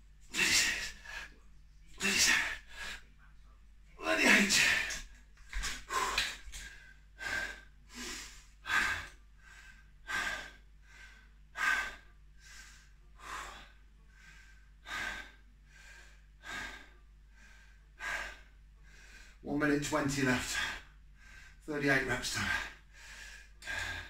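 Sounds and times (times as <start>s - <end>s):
man breathing hard: 0.3s - 1.4s, 2.0s - 3.1s, 4.6s - 19.4s, 20.4s - 21.6s, 22.4s - 24.0s.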